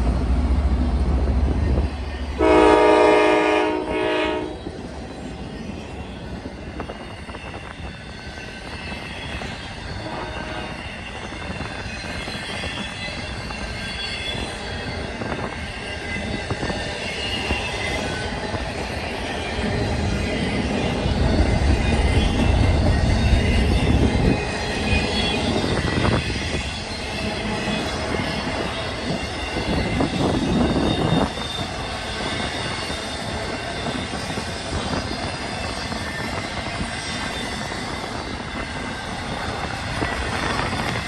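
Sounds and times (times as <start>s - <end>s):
train wheels clattering on rails: 4.6s - 41.0s.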